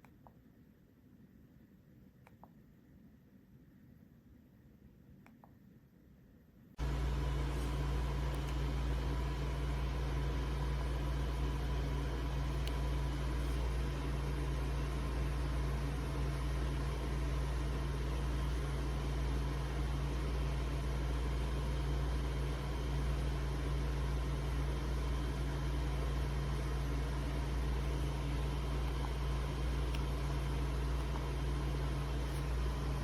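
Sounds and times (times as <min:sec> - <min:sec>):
steady low hum with hiss: 0:00.0 - 0:33.0.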